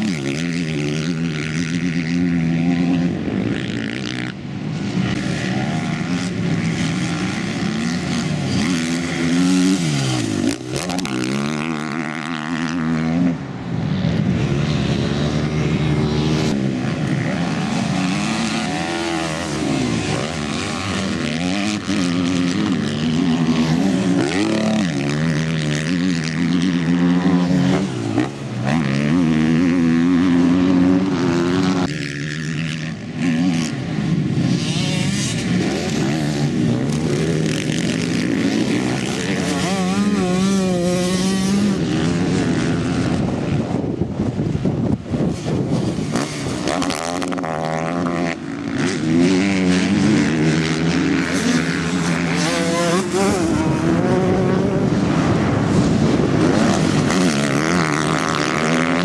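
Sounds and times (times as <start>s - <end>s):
motocross engines revving: 0.0s - 59.0s.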